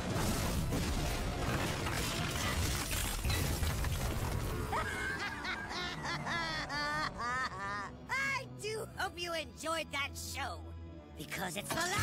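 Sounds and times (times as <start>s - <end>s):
dramatic action music: 0.0s - 12.0s.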